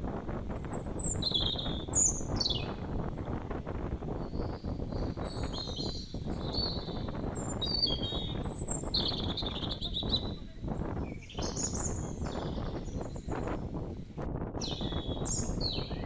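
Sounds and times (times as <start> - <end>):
birds chirping: 0.6 - 13.8, 14.6 - 16.0.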